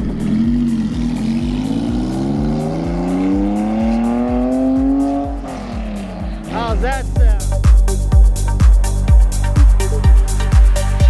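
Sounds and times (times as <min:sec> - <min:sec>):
car engine revving: 0:00.0 - 0:11.0
music beat: 0:00.0 - 0:11.0.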